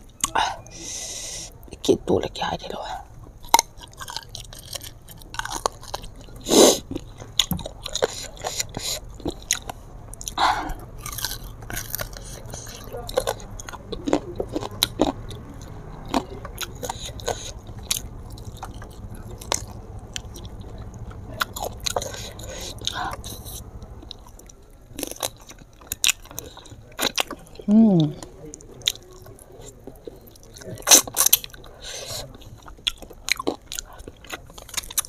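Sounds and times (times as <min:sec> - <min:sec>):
chewing with wet mouth clicks: 0:03.3 - 0:35.0.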